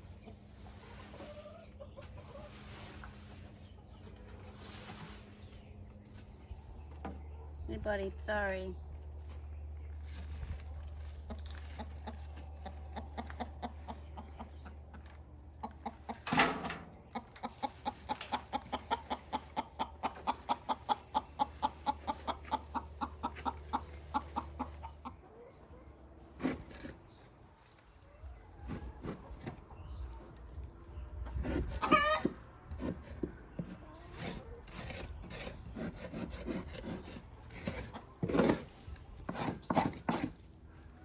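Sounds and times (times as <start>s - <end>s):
hen clucking: 0.1s - 7.6s, 10.0s - 40.2s.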